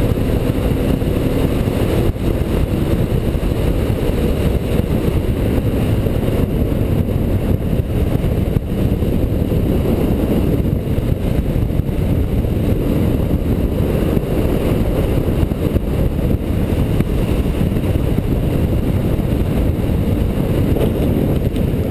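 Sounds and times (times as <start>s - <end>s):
motorcycle engine and road rumble: 0.0s - 21.9s
wind buffeting microphone: 0.0s - 21.9s.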